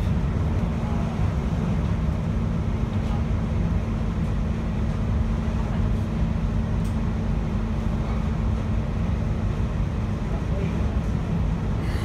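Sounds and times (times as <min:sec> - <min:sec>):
constant low hum: 0:00.0 - 0:12.0
train wheels rumbling on rail: 0:00.0 - 0:12.0.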